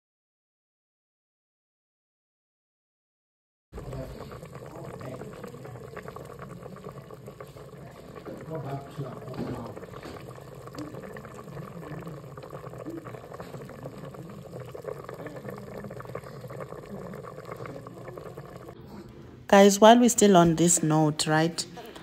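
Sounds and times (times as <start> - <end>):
stew boiling and bubbling: 3.8 - 22.0.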